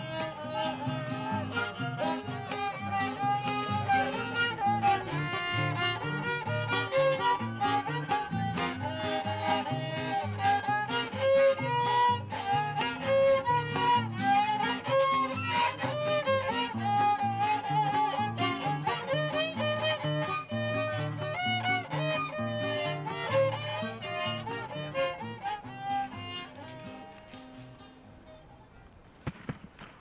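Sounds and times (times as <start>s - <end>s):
strummed guitar: 0.0s - 28.9s
violin folk melody: 0.0s - 30.0s.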